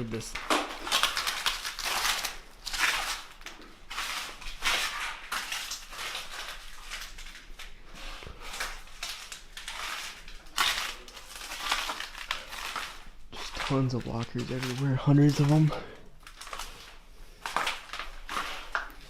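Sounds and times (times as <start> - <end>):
footsteps crunching over debris: 0.1 - 19.0.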